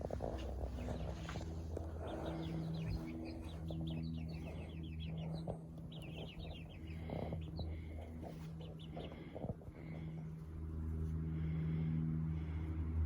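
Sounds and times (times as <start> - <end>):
young chickens cheeping: 0.0 - 10.5
steady low hum: 0.0 - 13.0.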